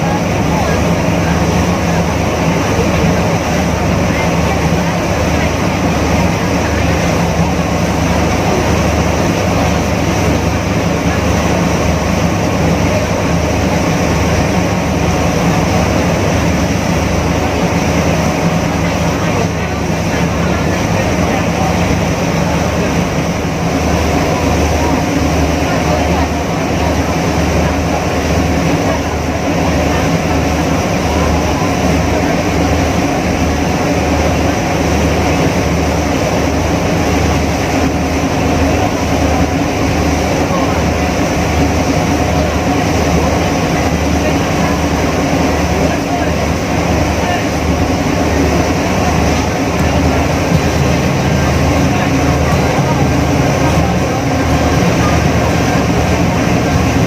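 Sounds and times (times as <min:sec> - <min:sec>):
ferry engine drone: 0:00.0 - 0:57.0
steady rushing noise: 0:00.0 - 0:57.0.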